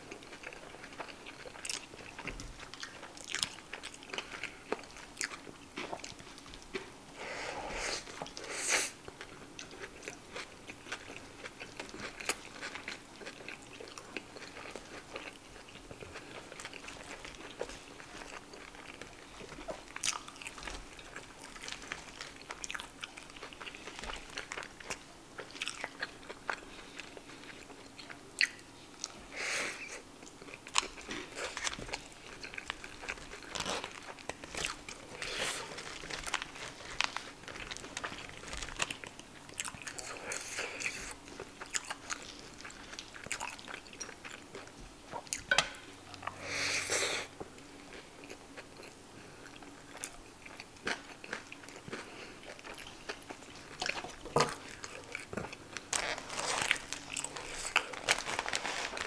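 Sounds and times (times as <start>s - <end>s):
chewing and crunching: 0.0s - 7.0s, 8.0s - 46.5s, 47.3s - 59.0s.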